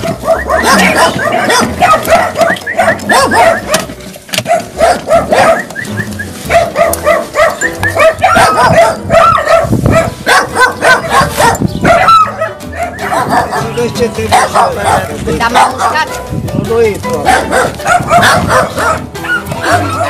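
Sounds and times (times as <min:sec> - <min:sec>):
dog barking rapidly: 0:00.0 - 0:05.8, 0:06.4 - 0:16.2, 0:17.2 - 0:20.0.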